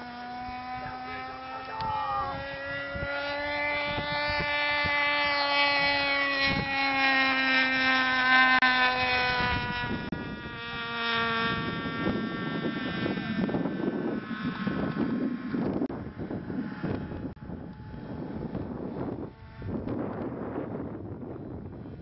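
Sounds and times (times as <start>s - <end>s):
model airplane engine: 0.0s - 22.0s.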